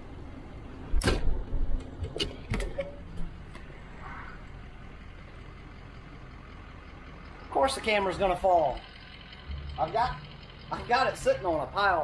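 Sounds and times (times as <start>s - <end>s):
bus rumbling on road: 0.0s - 12.0s.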